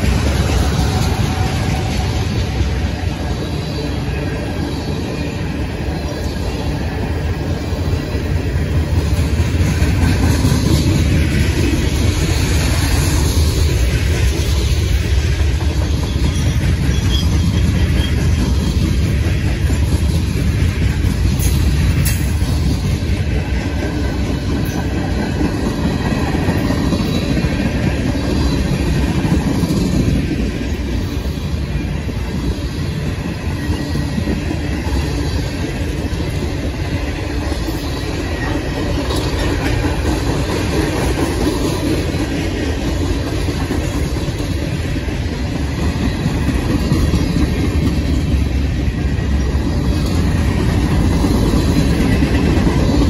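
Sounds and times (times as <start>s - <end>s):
steel wheels rumbling on rails: 0.0s - 53.0s.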